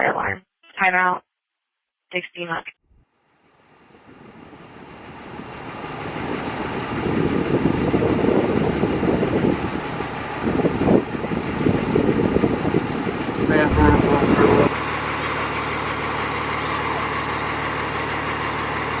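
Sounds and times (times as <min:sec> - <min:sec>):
fire truck engine running: 0:03.4 - 0:19.0.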